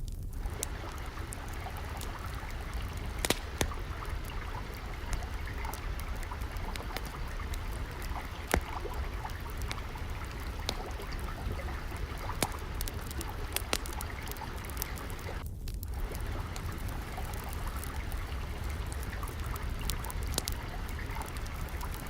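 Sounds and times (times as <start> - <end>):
wood fire crackling and popping: 0.0 - 22.0
water trickling: 0.1 - 22.0.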